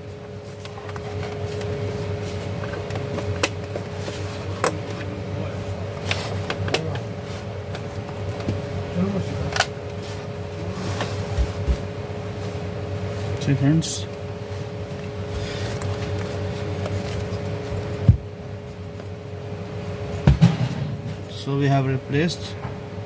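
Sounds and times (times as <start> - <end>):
low hum with faint whine: 0.0 - 23.0.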